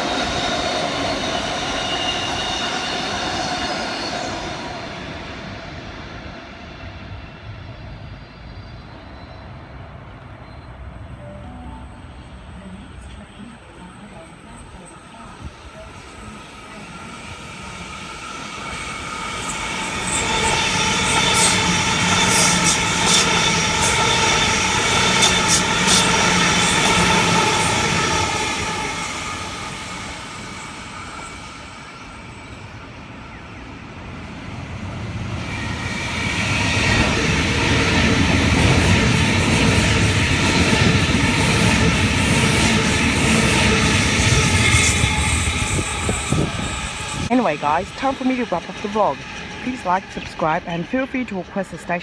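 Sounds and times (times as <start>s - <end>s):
wheels rumbling on rail: 0.0s - 52.0s.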